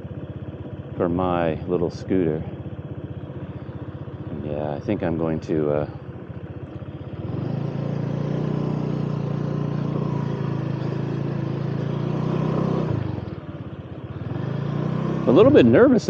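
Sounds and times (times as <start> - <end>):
scooter engine revving: 3.0 - 16.0.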